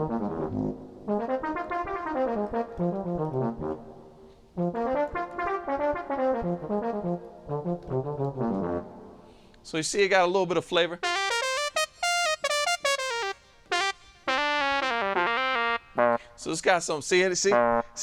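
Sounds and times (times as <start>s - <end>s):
synth brass chords: 0.0s - 9.4s, 11.0s - 16.4s, 17.5s - 18.0s.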